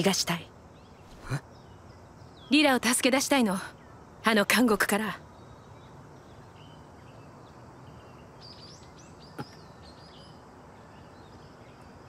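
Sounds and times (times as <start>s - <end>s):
small birds chirping: 0.0s - 12.0s
steady low hiss: 0.0s - 12.0s.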